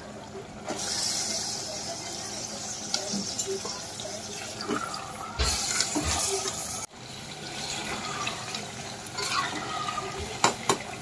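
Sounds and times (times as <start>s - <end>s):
meat sizzling in hot oil: 0.7s - 11.0s.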